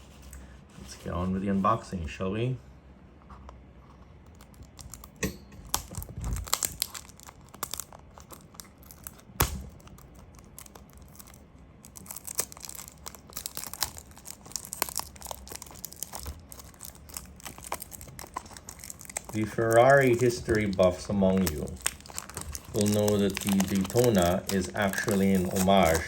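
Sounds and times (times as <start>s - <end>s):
packaging tearing and crinkling: 4.3s - 26.0s.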